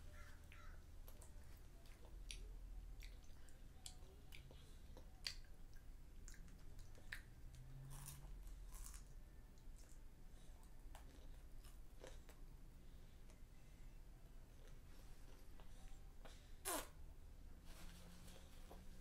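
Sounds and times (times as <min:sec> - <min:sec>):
child chewing: 0:00.1 - 0:13.5, 0:14.4 - 0:16.9.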